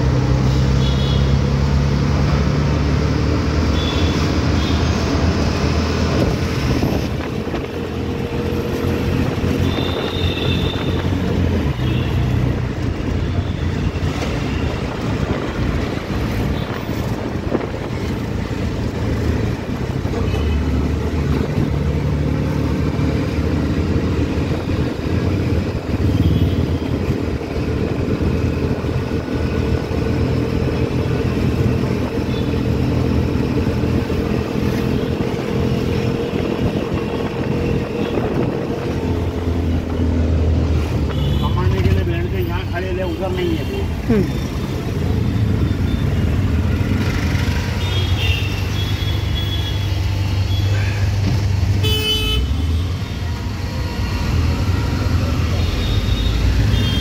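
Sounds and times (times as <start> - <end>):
auto-rickshaw engine running: 0.0 - 57.0
road noise: 0.0 - 57.0.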